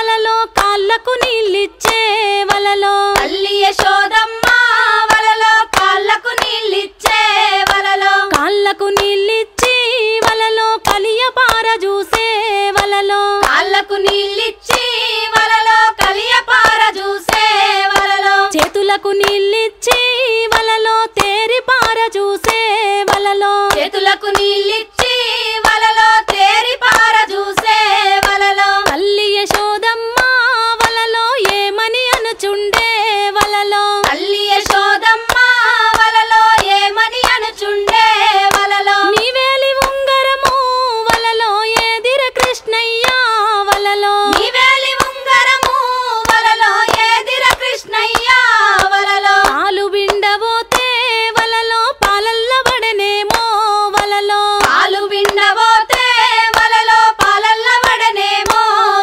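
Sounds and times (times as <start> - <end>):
rhythmic hand clapping: 0.0 - 59.0
women singing folk song: 0.0 - 59.0.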